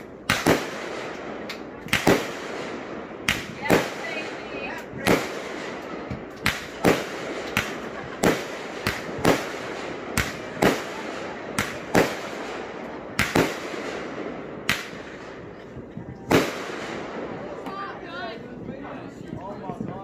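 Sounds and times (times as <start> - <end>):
fireworks bangs: 0.0 - 18.7.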